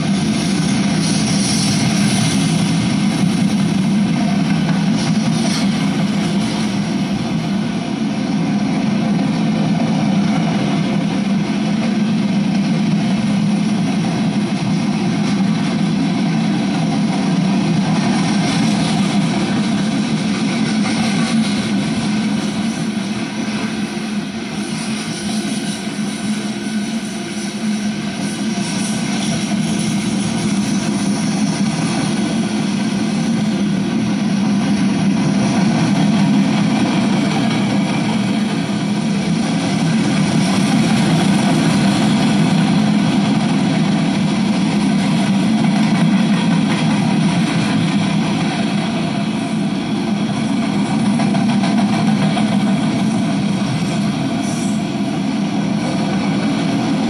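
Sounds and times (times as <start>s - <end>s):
freight cars rolling on rails: 0.0s - 57.0s.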